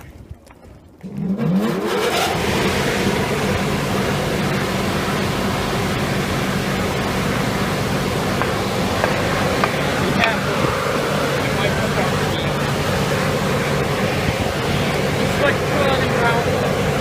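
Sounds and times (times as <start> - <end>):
blower motor whining and humming: 1.0 - 17.0
rush of air: 1.7 - 15.7.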